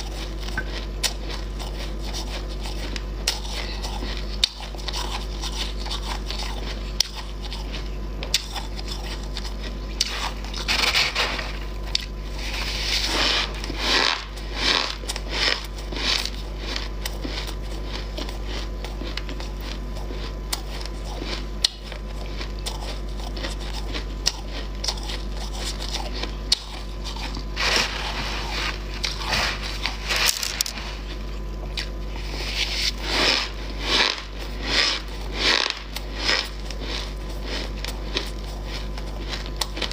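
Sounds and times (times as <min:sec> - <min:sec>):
frost being crunched and chewed: 0:00.0 - 0:39.9.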